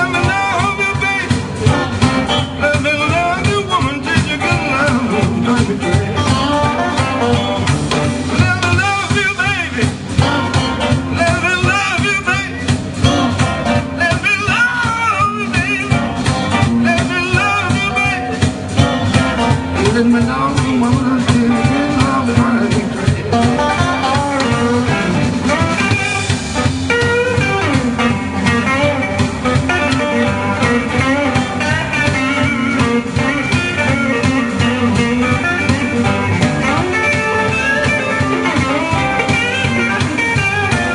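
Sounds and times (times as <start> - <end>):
blues band playing: 0.0 - 40.9
lead guitar with bent notes: 0.0 - 40.9.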